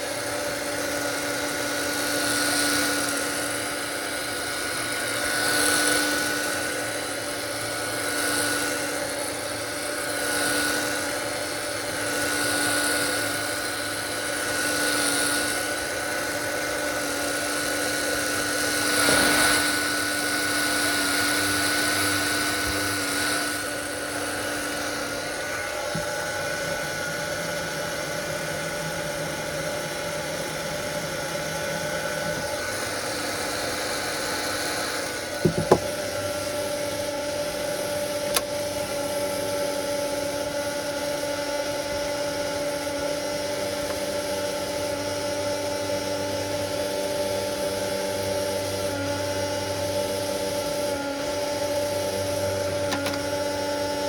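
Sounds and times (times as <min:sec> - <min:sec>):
small electric motor whirring: 0:00.0 - 0:54.0.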